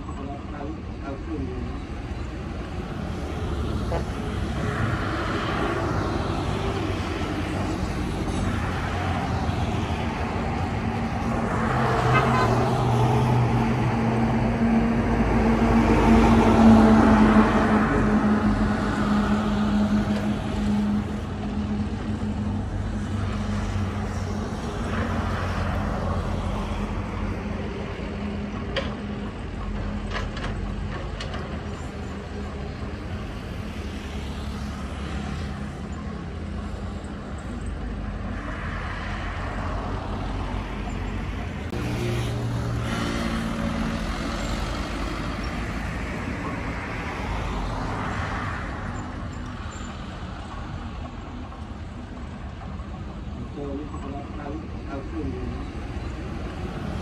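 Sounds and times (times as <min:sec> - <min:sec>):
diesel engines under load: 0:00.0 - 0:57.0.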